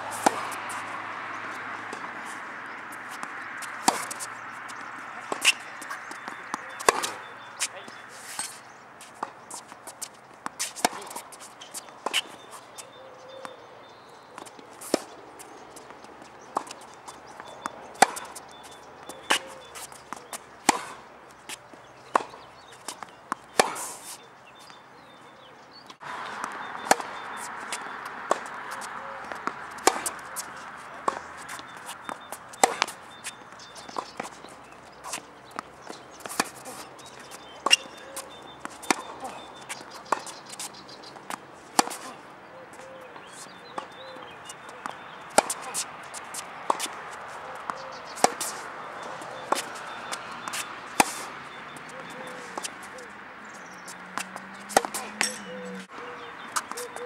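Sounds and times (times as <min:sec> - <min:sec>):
tennis ball bouncing: 0:00.0 - 0:25.1, 0:25.8 - 0:57.0
racket striking tennis ball: 0:00.1 - 0:12.8, 0:14.4 - 0:24.2, 0:25.9 - 0:57.0.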